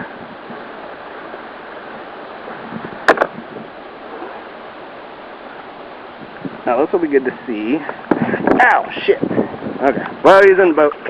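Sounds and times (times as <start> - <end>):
waves rushing around kayak: 0.0 - 11.0.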